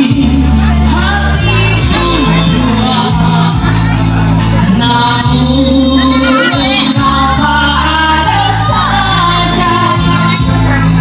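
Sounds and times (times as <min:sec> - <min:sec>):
musical accompaniment: 0:00.0 - 0:11.0
people singing through loudspeakers: 0:00.0 - 0:11.0.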